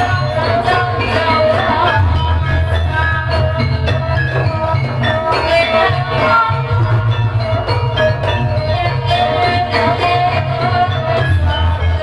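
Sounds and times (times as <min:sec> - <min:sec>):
drum and gong rumble: 0:00.0 - 0:12.0
metallophones ringing: 0:00.0 - 0:12.0.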